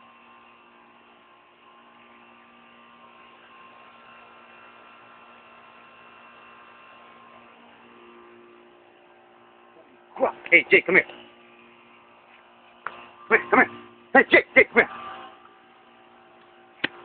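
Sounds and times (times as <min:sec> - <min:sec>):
faint hum of held tones: 0:00.0 - 0:17.0.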